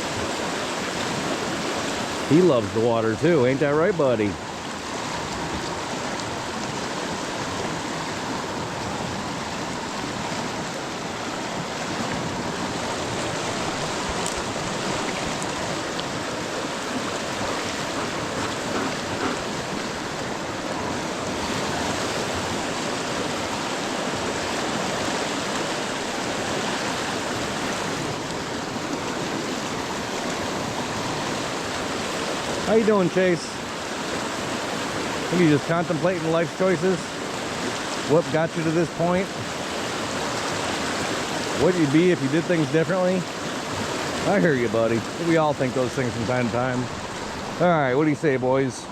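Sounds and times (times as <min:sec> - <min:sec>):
river rushing: 0:00.0 - 0:48.9.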